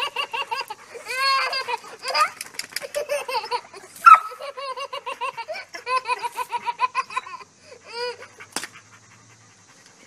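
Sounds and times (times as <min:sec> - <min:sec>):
toddler laughing: 0:00.0 - 0:08.4.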